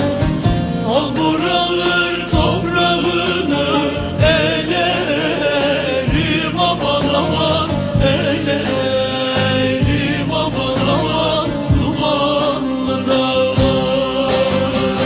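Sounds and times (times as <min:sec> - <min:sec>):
low drum beat: 0:00.0 - 0:12.6, 0:13.4 - 0:15.0
person singing folk song: 0:00.0 - 0:15.0
sustained instruments: 0:00.0 - 0:15.0.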